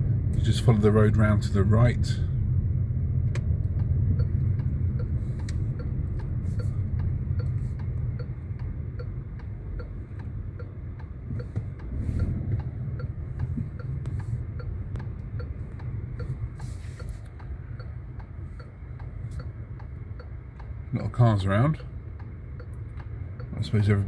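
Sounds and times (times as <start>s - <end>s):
engine and tyre rumble: 0.0s - 24.0s
turn signal ticking: 0.0s - 24.0s.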